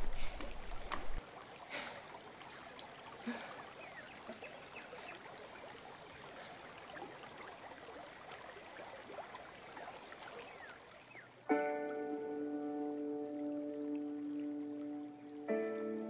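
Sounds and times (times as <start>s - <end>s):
river water lapping: 0.0s - 15.6s.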